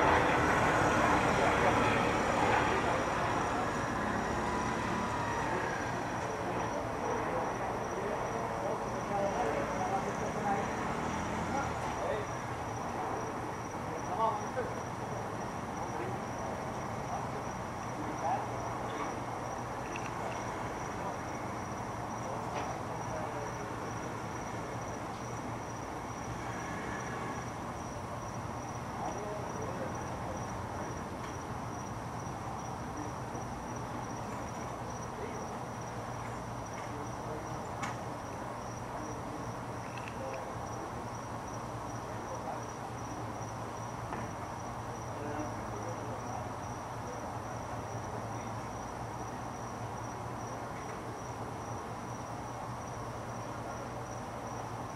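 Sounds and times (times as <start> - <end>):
cricket chirping: 0.0 - 54.9.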